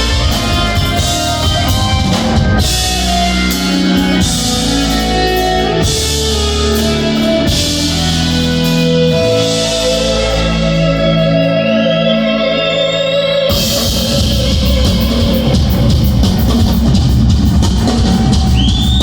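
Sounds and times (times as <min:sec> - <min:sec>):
drums and cymbals: 0:00.0 - 0:11.5, 0:13.5 - 0:19.0
rock band playing: 0:00.0 - 0:19.0.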